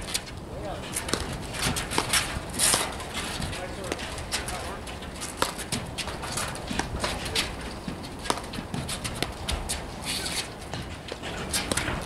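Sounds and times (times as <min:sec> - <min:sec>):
footsteps scuffing on court: 0:00.0 - 0:12.0
paddles hitting ball: 0:00.0 - 0:12.0.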